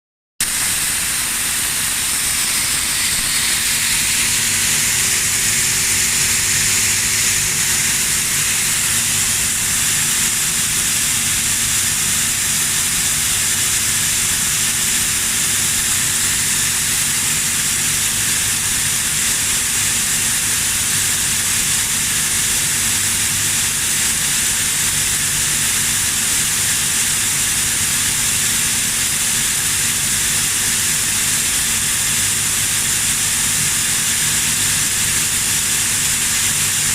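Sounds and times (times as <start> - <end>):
air compressor running: 0.4 - 36.9.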